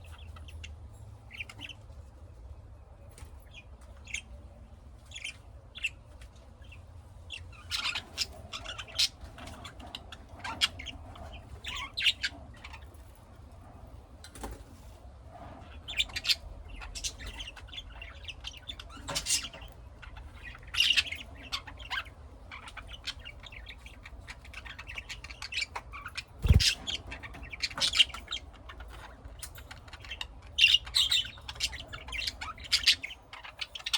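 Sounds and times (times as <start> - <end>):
parrots chirping and squawking: 0.0 - 2.1, 3.4 - 33.9.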